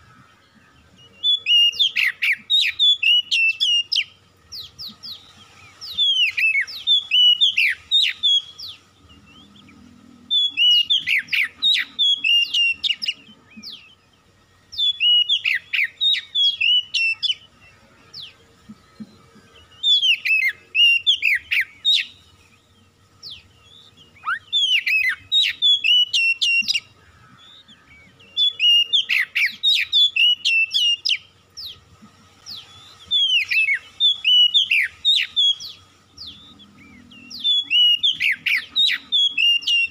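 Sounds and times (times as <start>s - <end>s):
bird singing whistled phrases: 1.0s - 14.0s, 14.7s - 17.5s, 19.7s - 22.2s, 23.2s - 31.8s, 32.5s - 39.9s.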